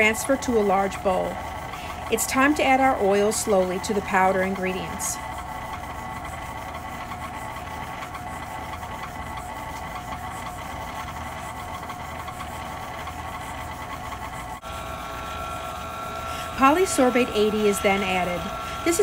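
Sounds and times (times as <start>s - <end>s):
beater turning through dry powder: 0.0s - 19.0s
stand mixer motor humming: 0.0s - 19.0s.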